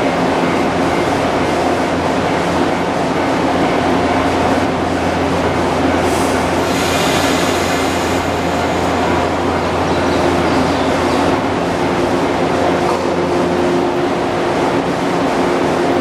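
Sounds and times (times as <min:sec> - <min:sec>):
electric train equipment humming: 0:00.0 - 0:16.0.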